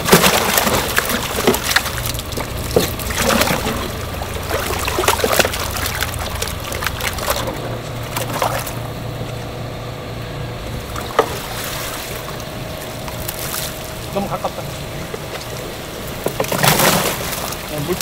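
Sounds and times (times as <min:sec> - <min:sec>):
low machine hum: 0:00.0 - 0:18.0
water splashing and sloshing: 0:00.0 - 0:18.0.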